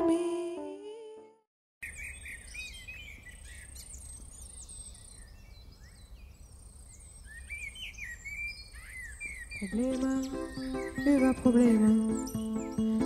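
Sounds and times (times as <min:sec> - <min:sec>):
birds chirping and twittering: 0:01.8 - 0:13.0.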